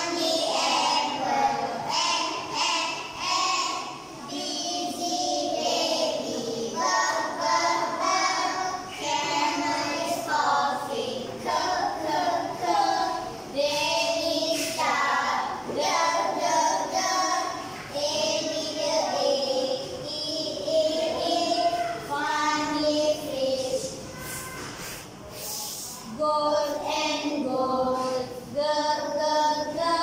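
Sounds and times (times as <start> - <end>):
children singing together: 0.0 - 30.0.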